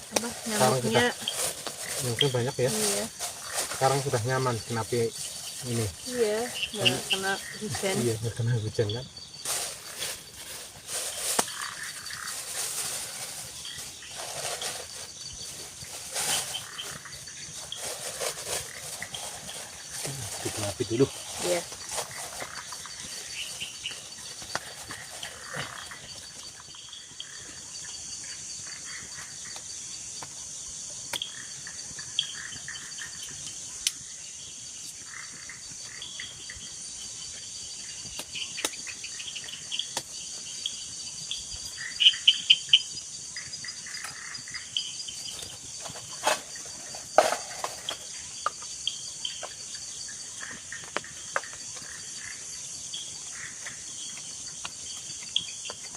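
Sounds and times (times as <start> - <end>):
crickets chirping: 0.0 - 55.9.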